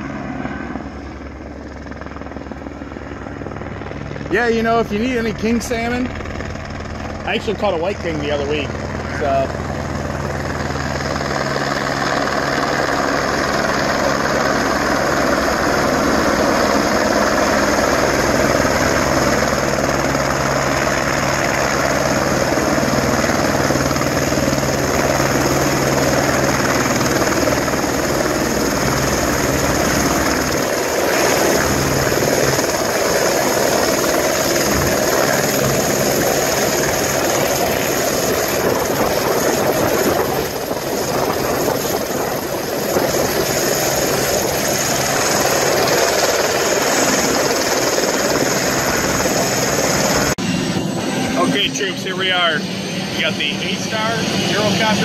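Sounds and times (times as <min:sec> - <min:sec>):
helicopter rotor beat: 0:00.0 - 0:55.0
helicopter turbine whine: 0:00.0 - 0:55.0.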